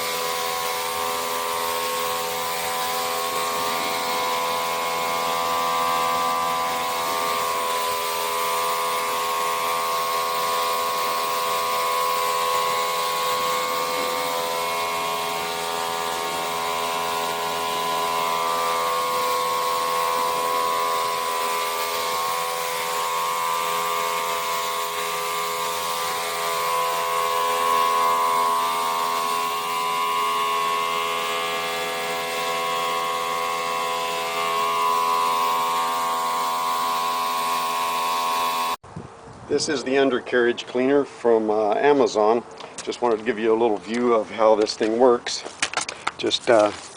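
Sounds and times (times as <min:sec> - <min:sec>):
steady motor whine: 0:00.0 - 0:38.8.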